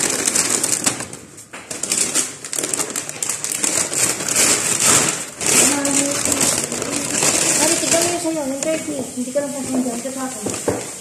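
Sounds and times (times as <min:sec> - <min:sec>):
paper bag rustling and crinkling: 0:00.0 - 0:11.0.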